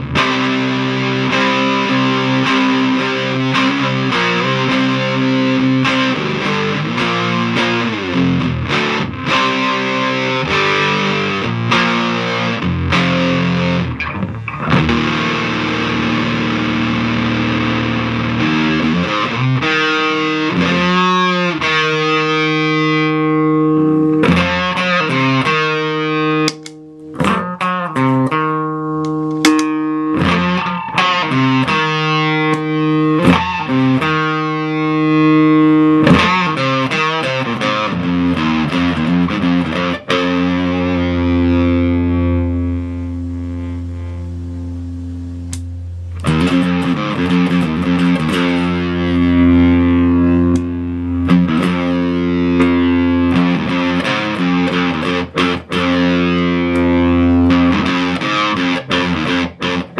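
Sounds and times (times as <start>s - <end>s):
distorted bass guitar notes: 0.0s - 59.9s.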